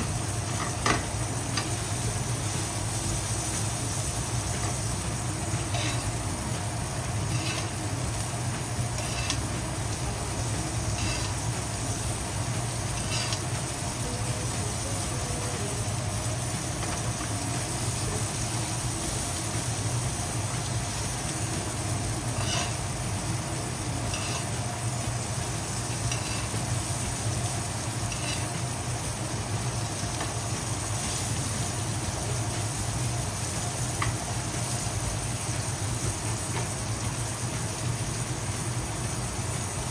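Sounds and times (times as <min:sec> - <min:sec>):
meat sizzling in a pan: 0:00.0 - 0:39.9.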